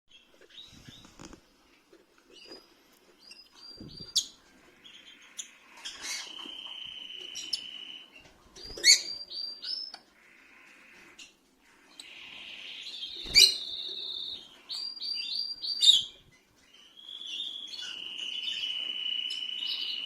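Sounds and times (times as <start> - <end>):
lovebirds chirping: 0.1 - 1.4, 2.2 - 20.0.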